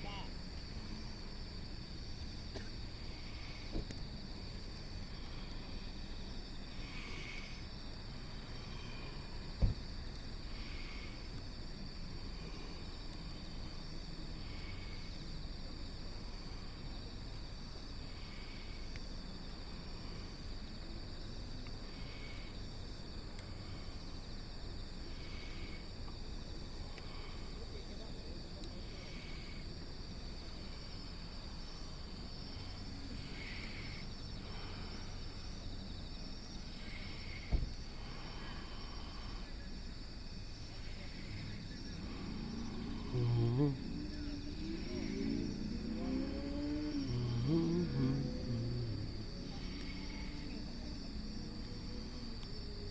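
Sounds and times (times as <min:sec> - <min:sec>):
insects shrilling: 0:00.0 - 0:52.9.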